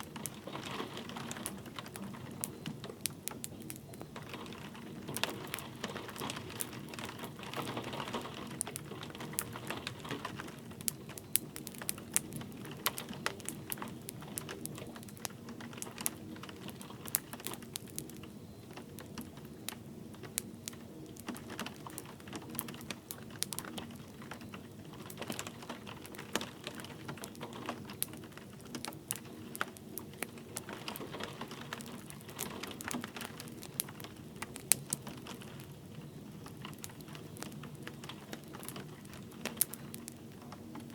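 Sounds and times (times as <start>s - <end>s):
light rain hiss: 0.0s - 40.9s
wood fire crackling: 0.0s - 40.9s.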